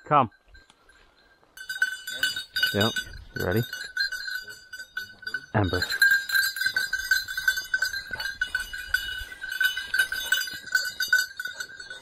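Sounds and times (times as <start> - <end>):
dog collar bell jingling: 0.0 - 12.0.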